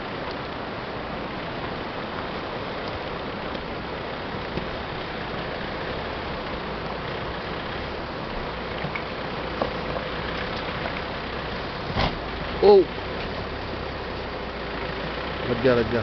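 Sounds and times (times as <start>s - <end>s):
engine running low: 0.0s - 16.0s
river rushing: 0.0s - 16.0s.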